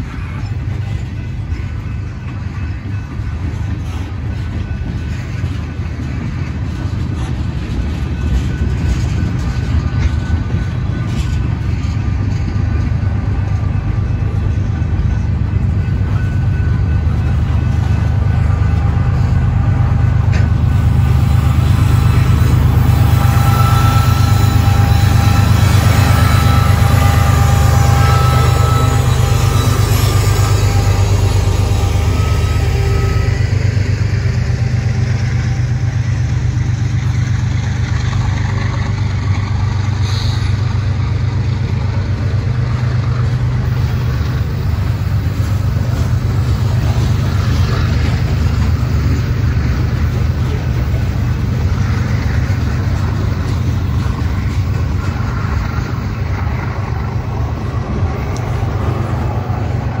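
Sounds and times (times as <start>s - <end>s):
freight train cars rumbling: 0.0s - 60.0s
locomotive engine hum: 0.0s - 60.0s
steel wheels clattering on rails: 0.0s - 60.0s.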